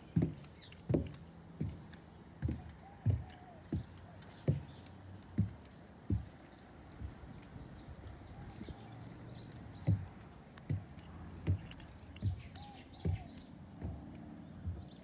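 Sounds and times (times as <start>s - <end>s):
footsteps walking: 0.0s - 15.0s
small birds chirping: 0.0s - 15.0s.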